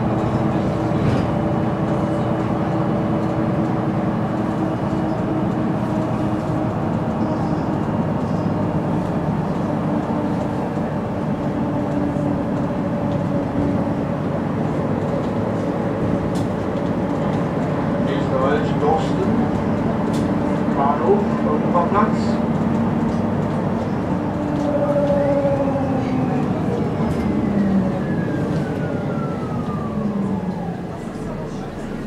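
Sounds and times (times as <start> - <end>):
bus engine hum from inside: 0.0 - 32.0.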